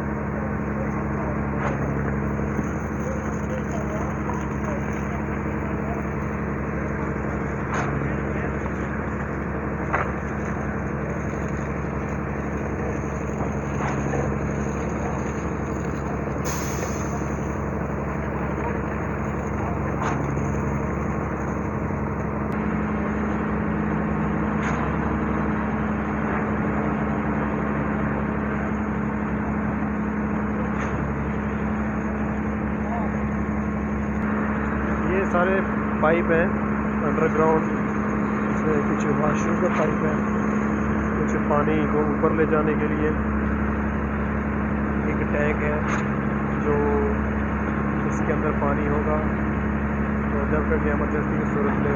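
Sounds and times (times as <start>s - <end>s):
machinery engine humming: 0.0s - 51.9s.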